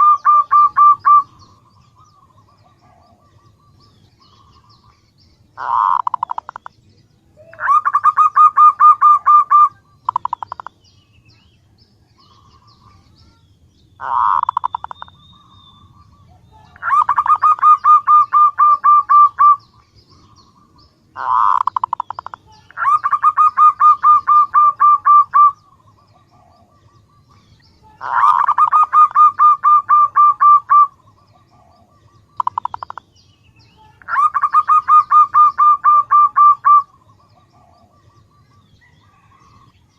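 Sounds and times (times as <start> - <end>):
dove staccato cooing: 0.0 - 4.9, 5.6 - 6.8, 7.4 - 10.8, 14.0 - 33.1, 34.0 - 39.7.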